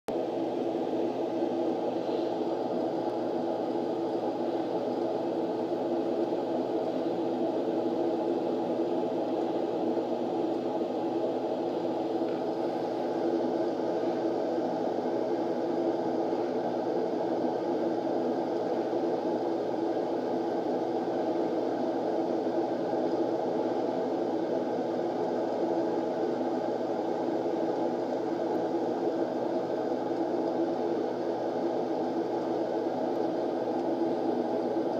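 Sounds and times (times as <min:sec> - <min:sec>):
steady background hum and hiss: 0:00.1 - 0:34.9.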